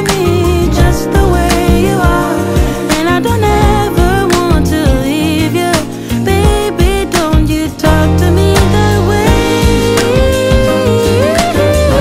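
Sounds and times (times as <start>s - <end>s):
song with sung melody and beat: 0.0s - 12.0s.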